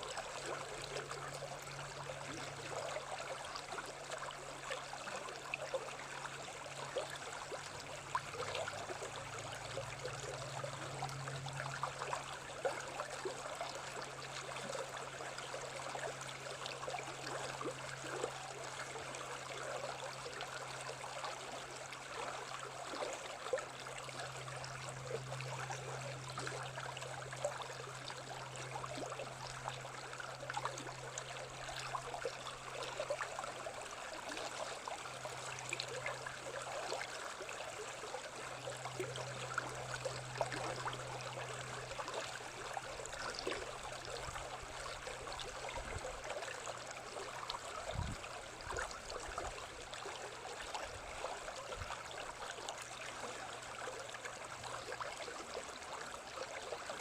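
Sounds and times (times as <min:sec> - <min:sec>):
stream babbling: 0:00.0 - 0:57.0.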